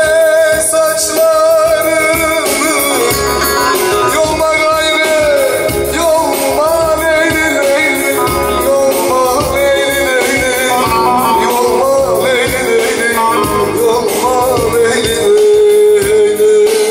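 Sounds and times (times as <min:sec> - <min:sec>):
folk music on keyboard and saz: 0:00.0 - 0:16.9.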